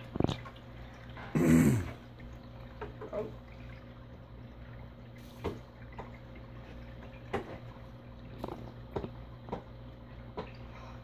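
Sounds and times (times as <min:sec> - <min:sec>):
steady low hum: 0:00.0 - 0:11.0
water dripping into aquarium: 0:00.0 - 0:11.0.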